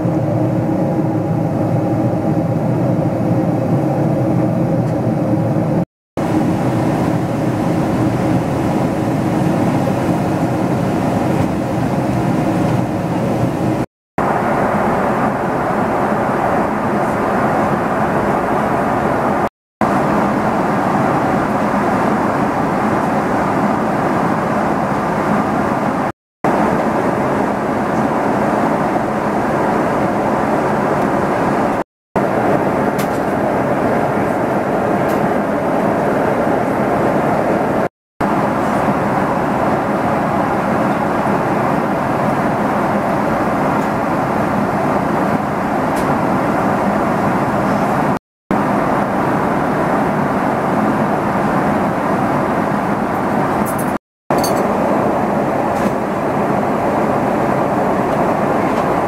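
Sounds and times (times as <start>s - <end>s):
airplane cabin engine and airflow rush: 0.0s - 59.0s.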